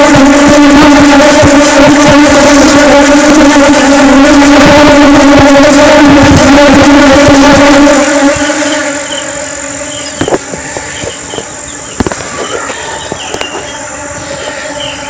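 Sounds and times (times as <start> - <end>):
bee buzzing in flight: 0.0 - 15.0.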